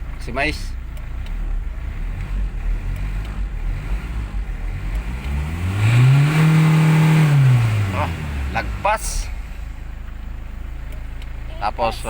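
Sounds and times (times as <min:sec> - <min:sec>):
diesel engine idling and revving: 0:00.0 - 0:12.0.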